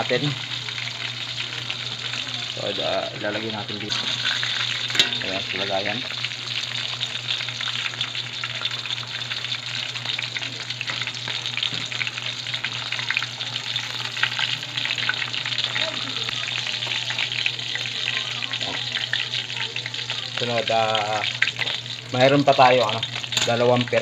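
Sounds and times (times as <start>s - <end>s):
fish deep-frying in oil: 0.0s - 24.0s.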